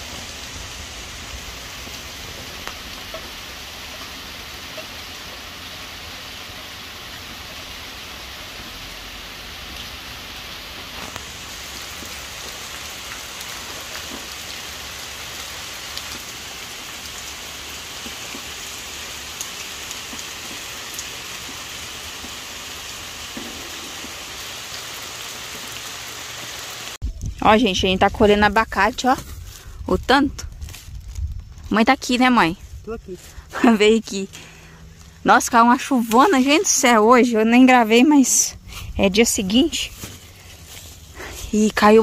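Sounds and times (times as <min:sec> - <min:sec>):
steady rain falling: 0:00.0 - 0:27.0, 0:28.2 - 0:42.0
louder raindrops: 0:00.0 - 0:42.0.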